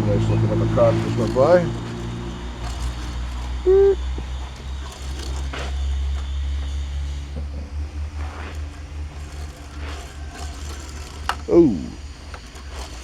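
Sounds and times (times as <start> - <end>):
light clicks and scrapes: 0.0 - 13.0
toy car rolling on plastic track: 0.0 - 13.0.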